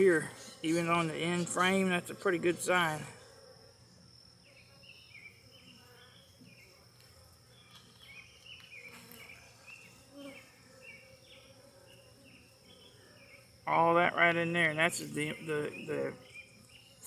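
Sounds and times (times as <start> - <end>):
high insect tone: 0.0 - 17.0
honeybees buzzing: 0.0 - 17.0.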